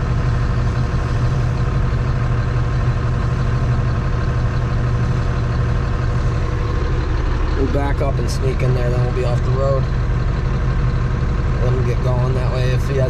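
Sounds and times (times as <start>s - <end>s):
farm vehicle engine droning: 0.0s - 13.0s.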